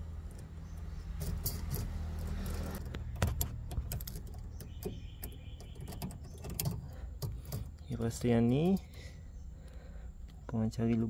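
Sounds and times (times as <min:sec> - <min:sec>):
small metal clicks and jingling: 0:00.1 - 0:09.2
bracket rattling against metal: 0:00.2 - 0:09.1.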